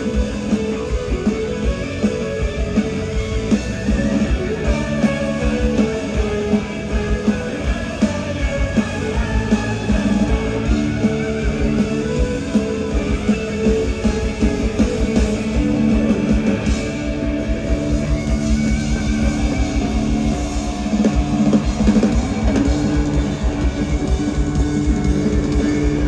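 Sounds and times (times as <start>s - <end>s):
guitars: 0.0s - 26.0s
steady drum beat: 0.0s - 26.0s.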